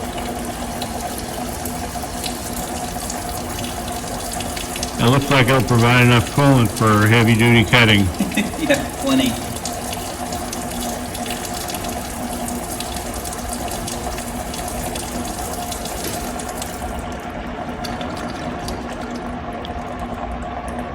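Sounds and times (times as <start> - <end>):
coolant pouring and splashing: 0.0 - 20.9
machine hum: 0.0 - 20.9.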